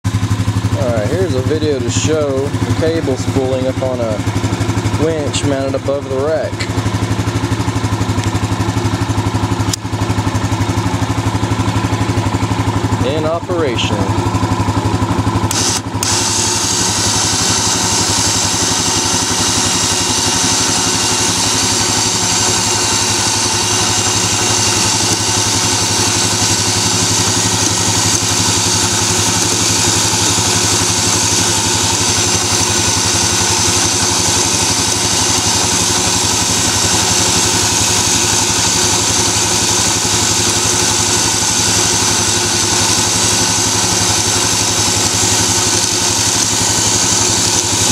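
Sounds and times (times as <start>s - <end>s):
electric winch spooling cable: 0.0s - 7.4s, 8.2s - 47.9s
engine idling hum: 0.0s - 47.9s.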